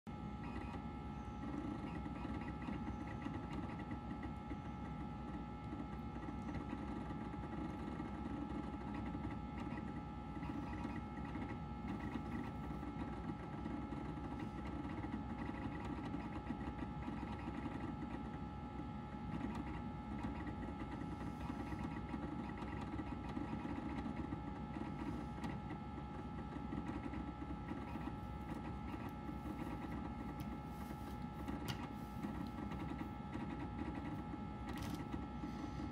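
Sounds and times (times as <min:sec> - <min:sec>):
computer fan whir and hum: 0:00.1 - 0:35.9
disk drive chatter: 0:00.1 - 0:35.9.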